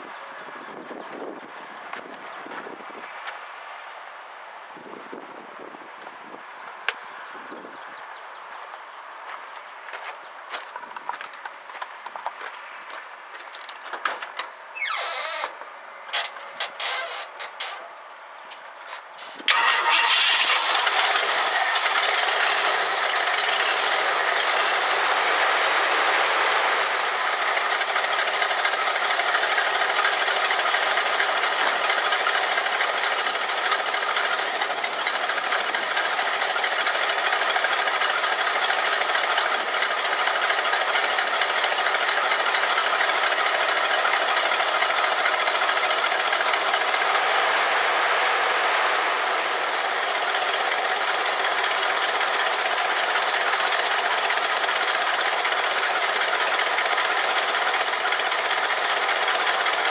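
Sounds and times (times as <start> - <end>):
engine running with clatter: 0.0 - 3.4, 4.9 - 59.9.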